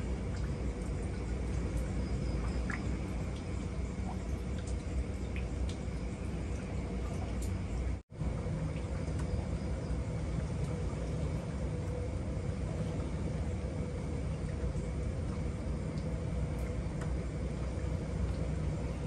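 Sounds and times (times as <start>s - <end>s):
faint steady hum: 0.0s - 19.0s
low outdoor rumble: 0.0s - 19.0s.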